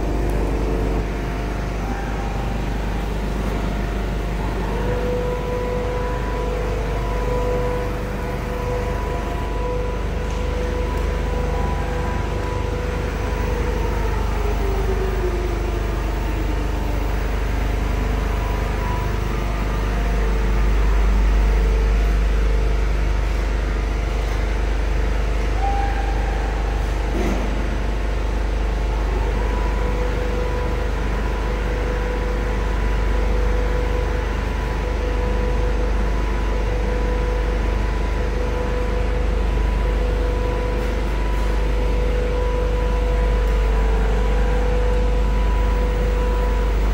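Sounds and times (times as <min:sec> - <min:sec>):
falling machine whine: 0:00.0 - 0:46.9
sewing machines rumbling: 0:00.0 - 0:46.9.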